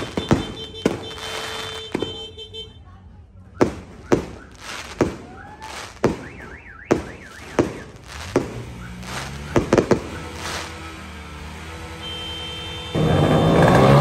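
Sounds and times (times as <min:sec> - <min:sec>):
fireworks bangs: 0:00.0 - 0:02.6, 0:03.5 - 0:14.0.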